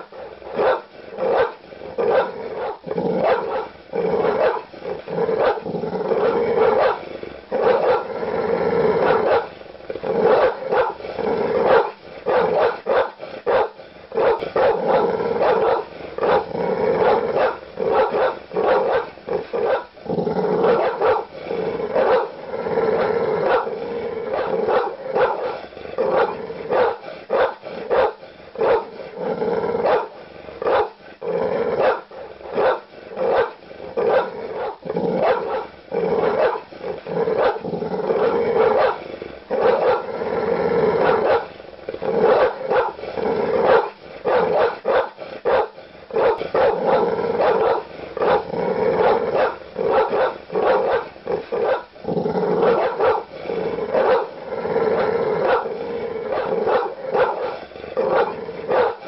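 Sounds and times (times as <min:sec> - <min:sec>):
large dog barking aggressively: 0:00.0 - 0:59.0.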